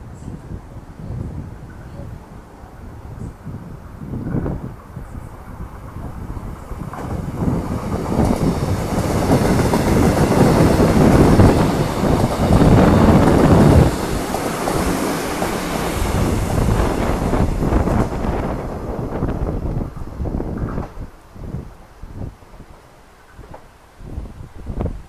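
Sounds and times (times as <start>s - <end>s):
electric train passing at speed: 0.0s - 25.0s.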